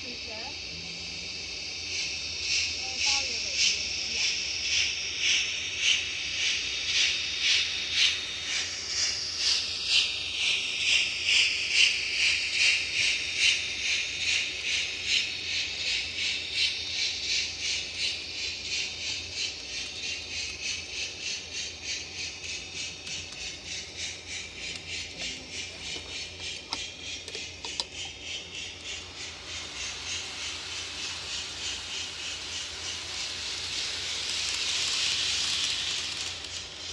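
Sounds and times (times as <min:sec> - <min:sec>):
steam chuff through small speaker: 0:00.0 - 0:36.9.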